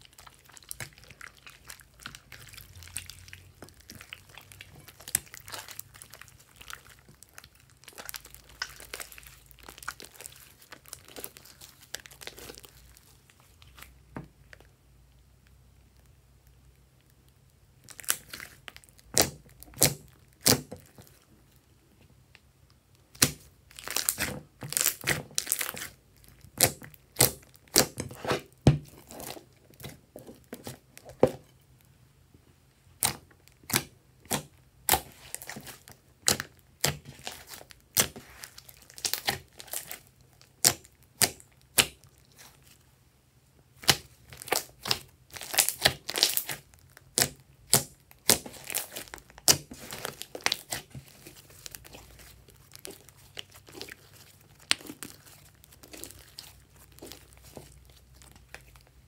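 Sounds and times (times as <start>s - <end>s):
slime popping and crackling: 0.0s - 14.7s, 16.0s - 21.2s, 22.9s - 31.3s, 33.0s - 42.8s, 43.8s - 59.0s.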